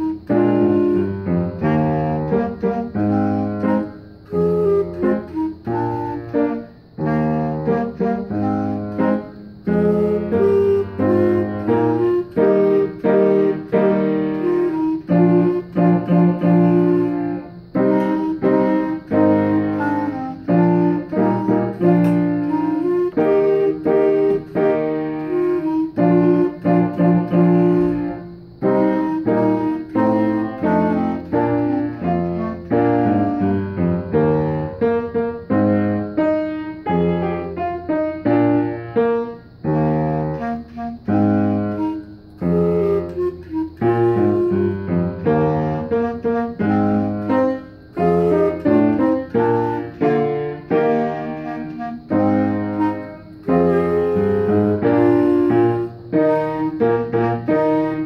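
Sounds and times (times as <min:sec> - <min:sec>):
clarinet solo: 0:00.0 - 0:58.0
piano accompaniment: 0:00.0 - 0:58.0.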